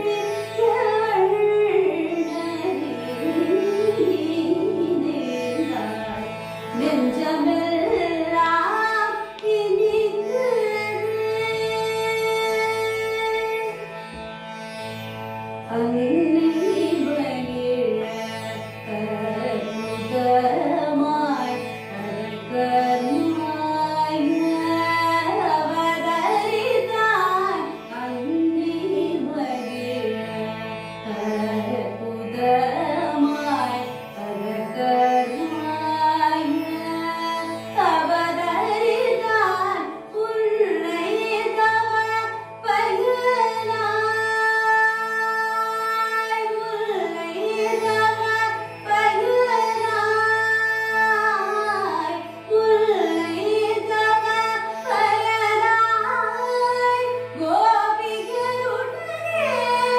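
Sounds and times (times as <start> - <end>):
woman singing: 0.0 - 13.8, 15.6 - 59.9
plucked tanpura drone: 0.0 - 59.9.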